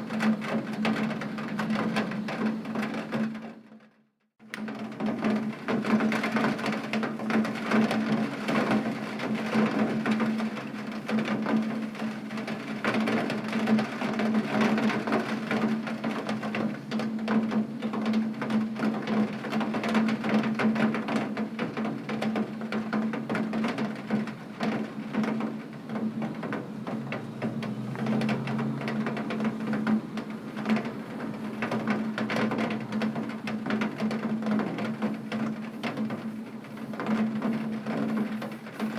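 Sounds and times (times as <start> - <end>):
heavy rain on a window: 0.0 - 3.9, 4.6 - 38.9.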